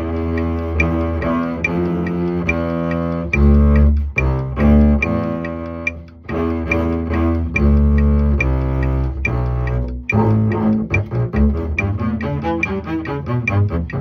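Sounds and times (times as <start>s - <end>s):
bowed double bass: 0.0s - 14.0s
faint high ticking: 0.0s - 14.0s.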